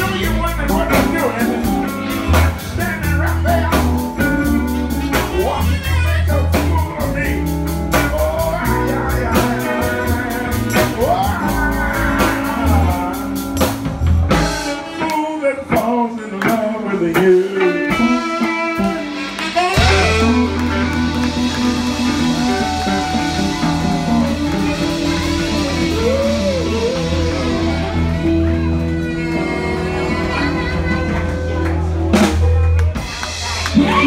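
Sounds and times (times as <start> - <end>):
bass guitar: 0.0 - 34.0
drums: 0.0 - 34.0
electric guitar lead: 0.0 - 34.0.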